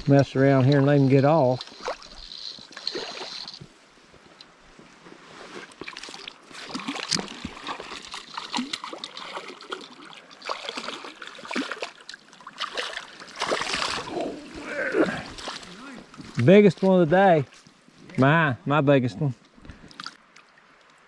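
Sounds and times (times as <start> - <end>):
water splashing and trickling: 0.0 - 4.5, 5.4 - 18.5, 19.6 - 21.0.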